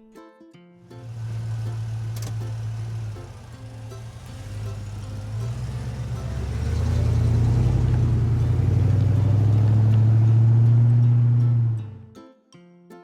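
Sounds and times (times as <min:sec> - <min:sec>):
car engine humming: 0:00.9 - 0:12.0.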